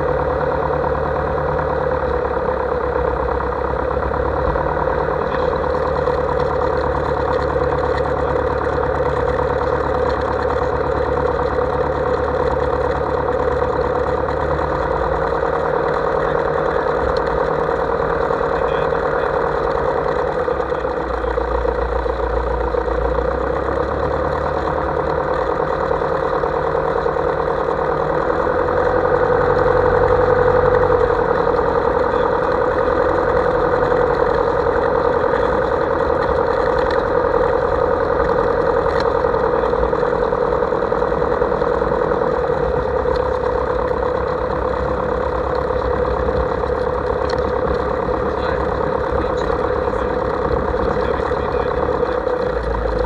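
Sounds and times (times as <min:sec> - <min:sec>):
airplane engine and propeller: 0:00.0 - 0:53.0.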